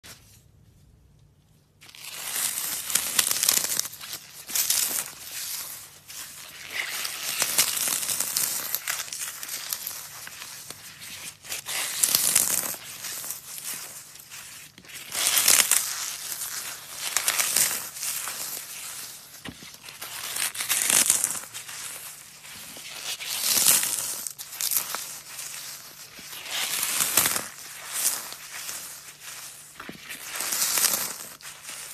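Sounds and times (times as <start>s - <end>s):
foam crackling and crunching: 1.8s - 31.9s.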